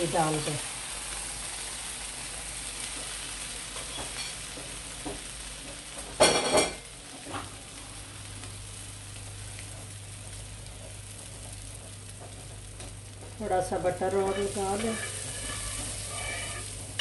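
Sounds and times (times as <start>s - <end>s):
bread sizzling on griddle: 0.0s - 17.0s.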